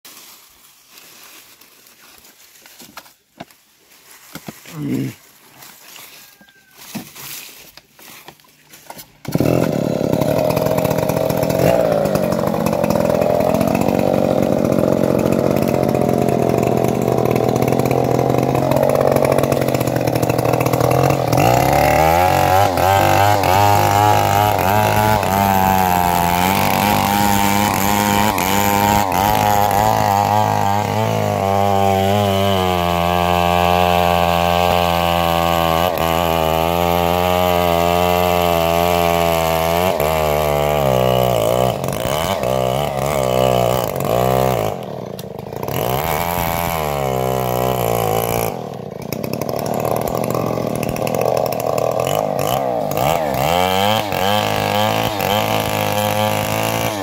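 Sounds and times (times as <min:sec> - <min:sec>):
chainsaw running unevenly: 0:04.3 - 0:05.7, 0:08.0 - 0:57.0.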